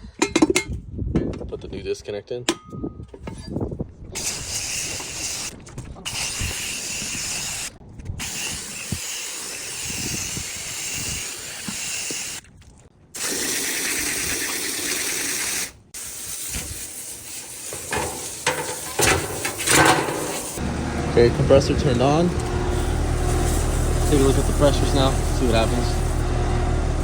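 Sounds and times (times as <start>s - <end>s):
hose spraying water: 4.2s - 12.5s, 13.2s - 27.0s.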